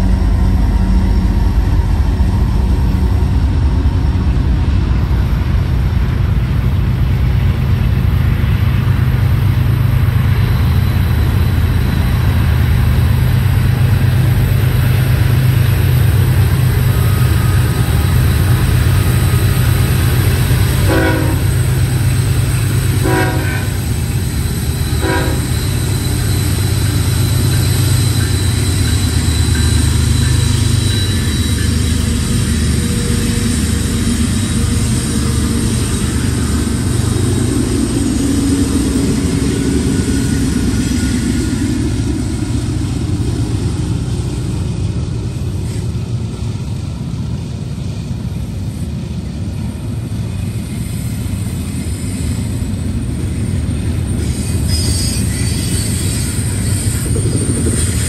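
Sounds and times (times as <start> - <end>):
diesel locomotive engine rumble: 0.0 - 58.0
train cars rolling on rails: 0.0 - 58.0.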